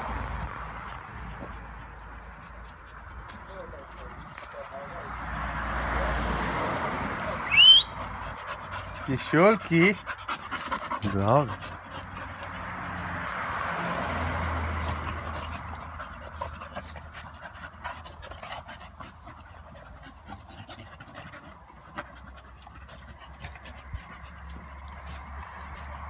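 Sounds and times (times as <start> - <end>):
dogs panting: 0.0 - 26.0.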